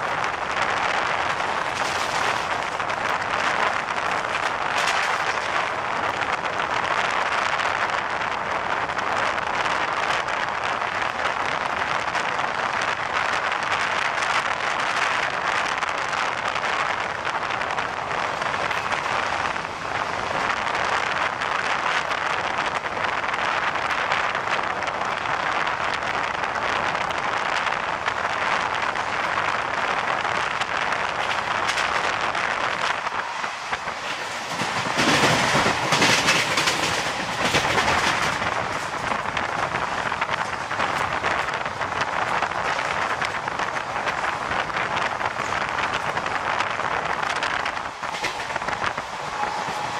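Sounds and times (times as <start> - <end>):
train wheels on rails at speed: 0.0 - 49.9
wind buffeting microphone: 0.0 - 49.9
wind rushing: 0.0 - 49.9.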